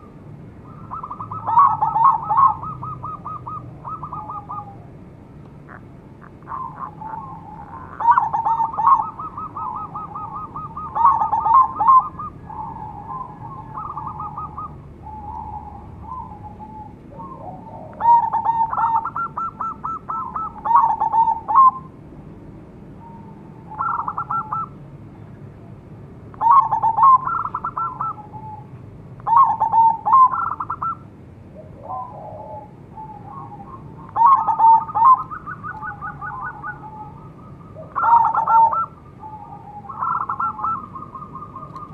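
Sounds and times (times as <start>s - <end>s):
dove cooing: 0.0s - 22.0s, 23.0s - 24.8s, 26.4s - 41.9s.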